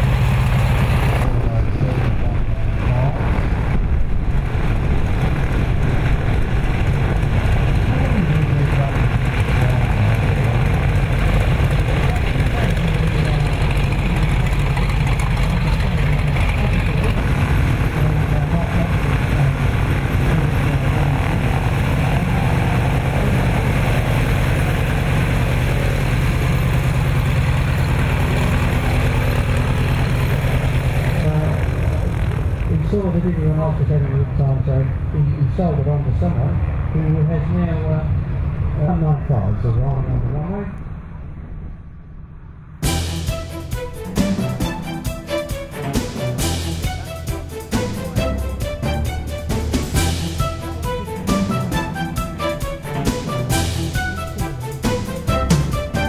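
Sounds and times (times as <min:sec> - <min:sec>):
light aircraft engines and propellers: 0:00.0 - 0:56.0.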